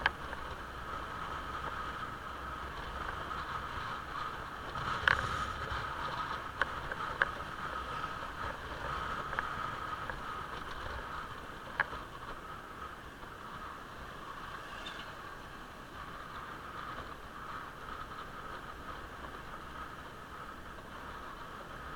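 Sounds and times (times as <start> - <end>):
motorcycle engine and road noise: 0.0 - 21.9.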